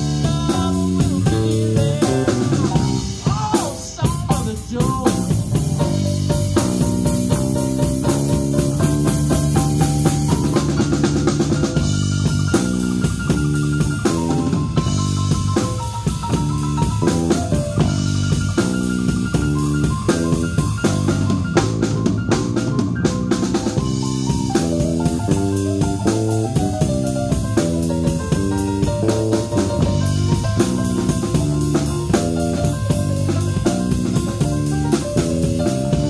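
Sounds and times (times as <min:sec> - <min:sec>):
drum kit: 0:00.0 - 0:36.0
keyboard melodic run: 0:05.0 - 0:36.0.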